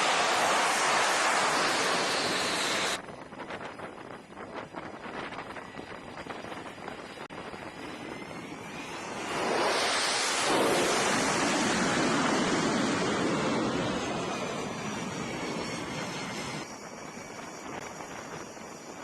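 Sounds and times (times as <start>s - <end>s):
jet aircraft roar passing: 0.0s - 3.0s, 5.1s - 19.0s.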